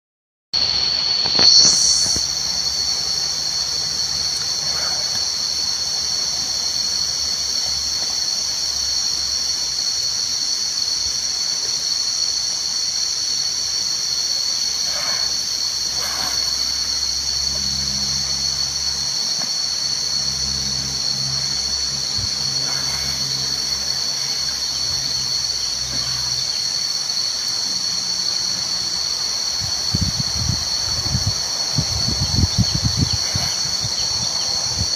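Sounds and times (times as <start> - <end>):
insect chorus droning: 0.6 - 34.9.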